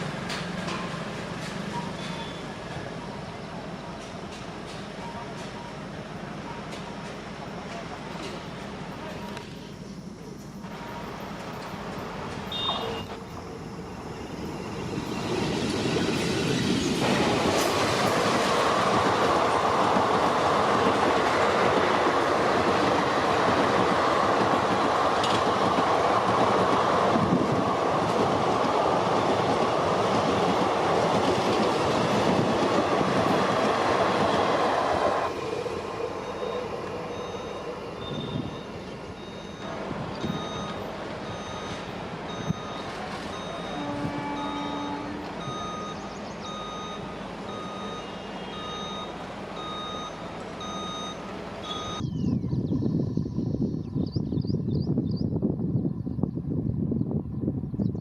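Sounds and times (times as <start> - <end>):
train passing at speed: 0.0 - 52.0.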